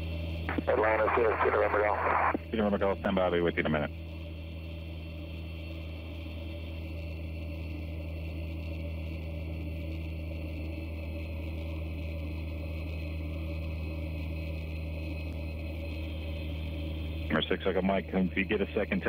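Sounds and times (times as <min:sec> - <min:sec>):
turboprop engine drone: 0:00.0 - 0:19.0.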